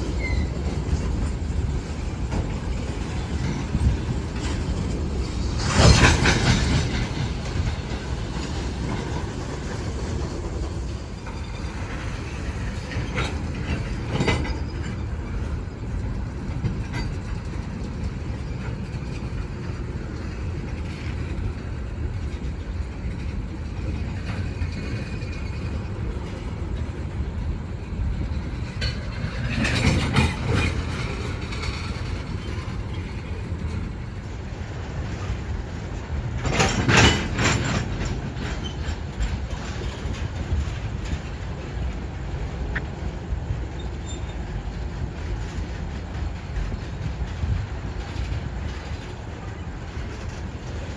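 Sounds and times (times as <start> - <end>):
freight train wheels rumbling: 0.0 - 50.9
wheels clattering over rail joints: 0.0 - 50.9.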